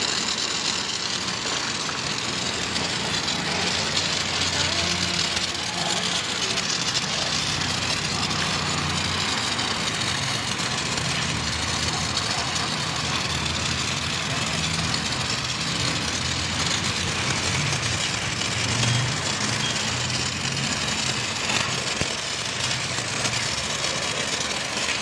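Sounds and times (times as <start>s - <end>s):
pressure washer motor humming: 0.0s - 25.0s
pressure washer water jet spraying: 0.0s - 25.0s.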